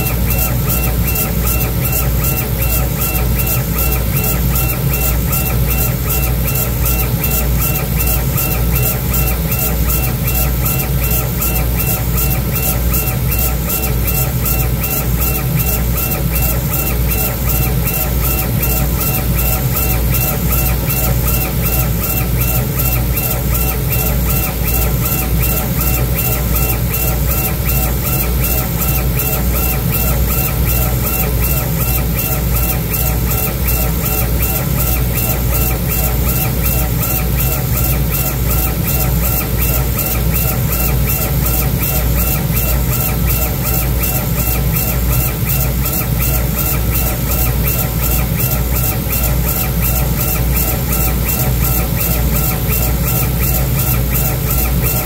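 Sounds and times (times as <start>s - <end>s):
laser engraver running: 0.0s - 55.0s.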